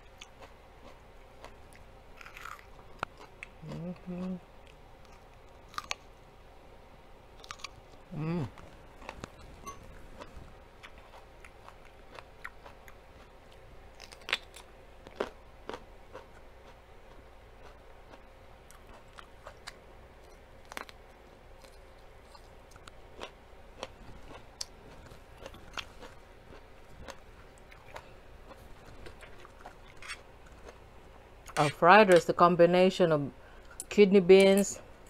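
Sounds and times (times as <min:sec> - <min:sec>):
chewing crisp food: 0:00.0 - 0:06.2, 0:07.4 - 0:31.8.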